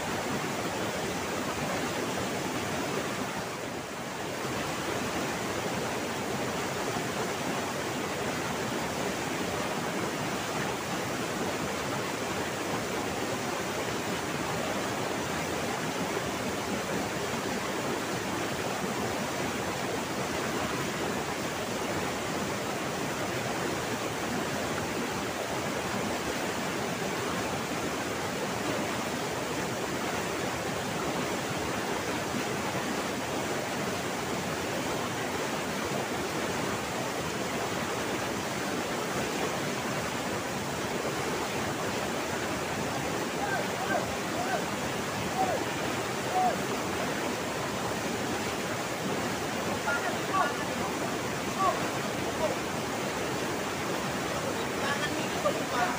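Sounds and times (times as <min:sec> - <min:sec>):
river rushing over waterfall: 0:00.0 - 0:55.9.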